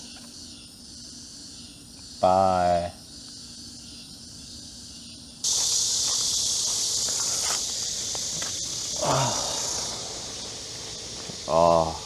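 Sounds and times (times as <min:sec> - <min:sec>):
faint insect chirring: 0:00.0 - 0:12.0
loud chorus of cicadas: 0:00.0 - 0:12.0.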